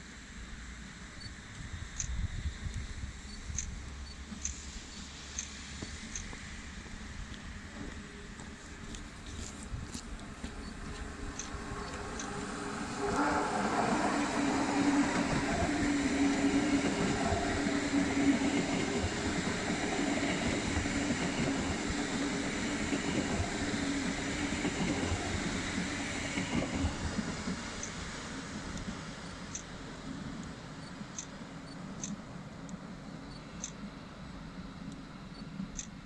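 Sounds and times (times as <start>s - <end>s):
train hum: 0.0s - 36.0s
train wheels rumbling on rails: 0.0s - 36.0s.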